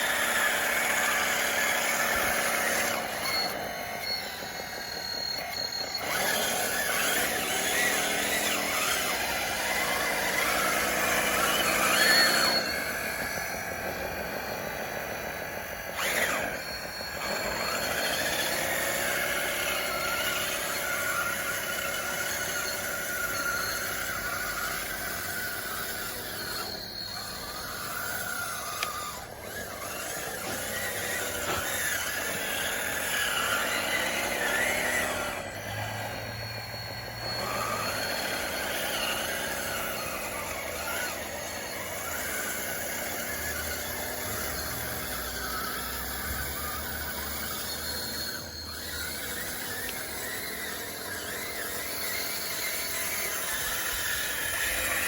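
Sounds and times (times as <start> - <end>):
electric motors whining: 0.0 - 55.0
high squeal: 0.0 - 55.0.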